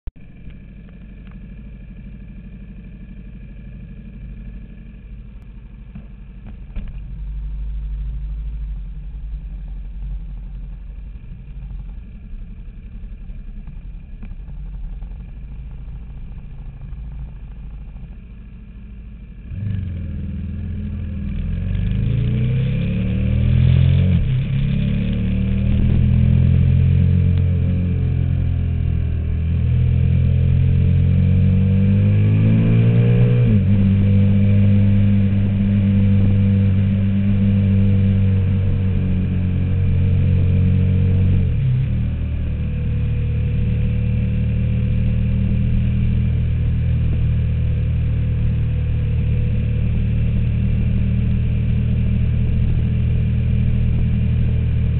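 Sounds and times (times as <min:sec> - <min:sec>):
motorcycle engine revving: 0:00.3 - 0:54.9.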